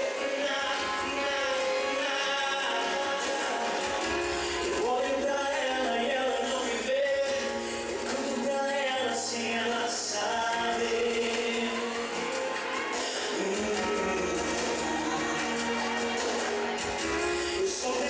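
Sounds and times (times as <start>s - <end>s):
man singing into a microphone: 0.0s - 16.2s, 17.2s - 18.0s
musical accompaniment: 0.0s - 18.0s.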